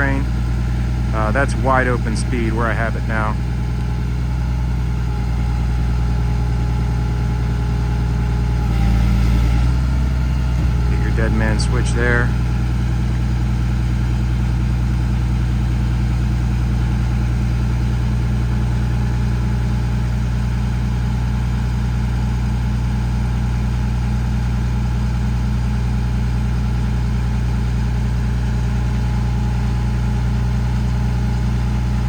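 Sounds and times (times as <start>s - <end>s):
diesel truck engine idling: 0.0s - 32.0s.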